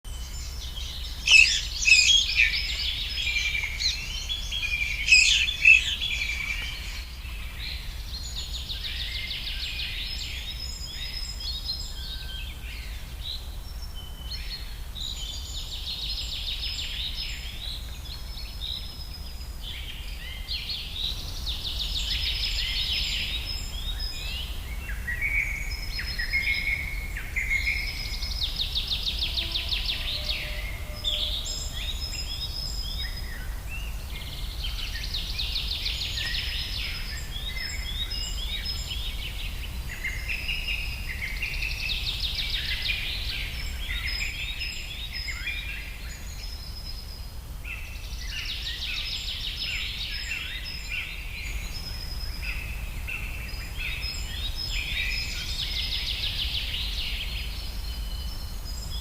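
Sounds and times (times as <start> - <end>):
songbirds singing and calling: 0.1 - 59.0.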